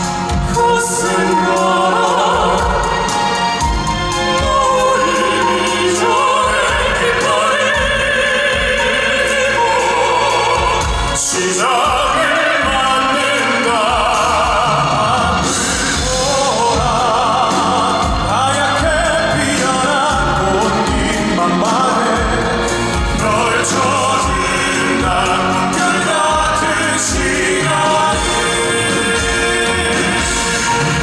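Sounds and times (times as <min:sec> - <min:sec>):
instrumental accompaniment: 0:00.0 - 0:31.0
male group singing operatically: 0:00.0 - 0:31.0.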